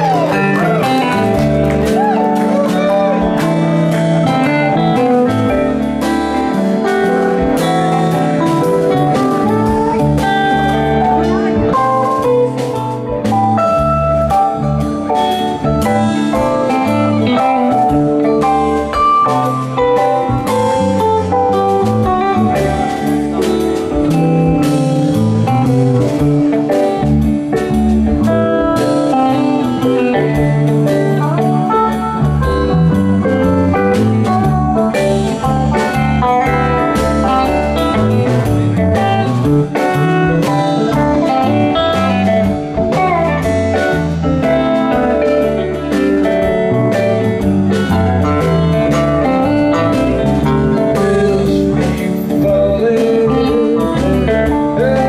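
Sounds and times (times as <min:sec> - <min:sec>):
drums: 0:00.0 - 0:55.0
electric bass: 0:00.0 - 0:55.0
electric guitars: 0:00.0 - 0:55.0.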